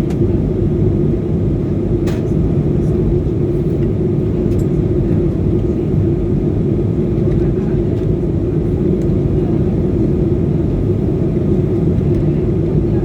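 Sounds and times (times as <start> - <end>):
airliner cabin rumble: 0.0 - 13.0
constant hum: 0.0 - 13.0.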